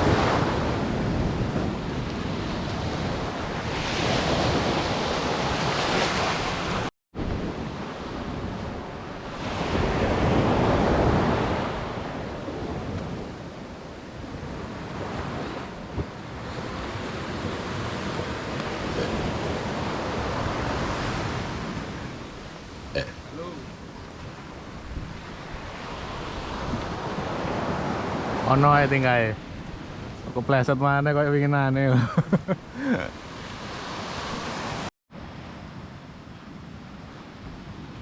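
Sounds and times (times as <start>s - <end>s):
wind buffeting microphone: 0.0s - 30.4s
sea waves breaking on shore: 0.0s - 30.8s, 32.6s - 38.0s.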